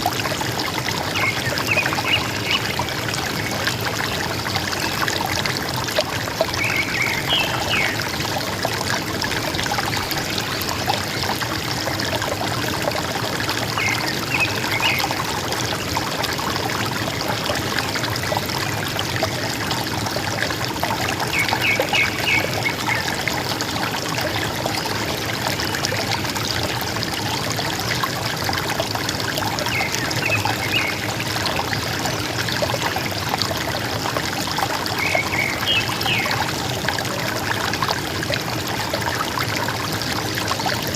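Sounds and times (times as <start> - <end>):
river water gurgling: 0.0 - 40.9.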